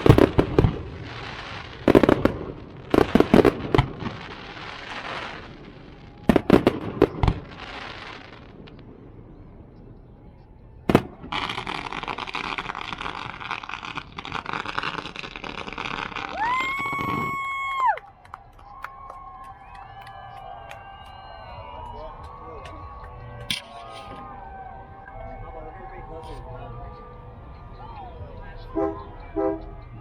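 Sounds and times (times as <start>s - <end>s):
fireworks bangs with crackle: 0.0s - 29.8s.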